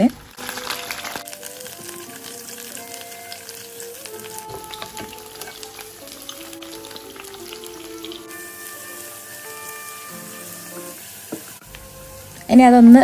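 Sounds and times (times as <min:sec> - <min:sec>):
small crackles and spits: 0:00.0 - 0:09.4, 0:10.3 - 0:12.5
food sizzling in oil: 0:00.0 - 0:13.0.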